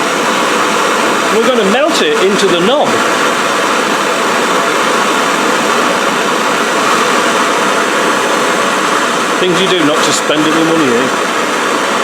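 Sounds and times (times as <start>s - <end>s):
blowtorch hissing: 0.0s - 12.0s.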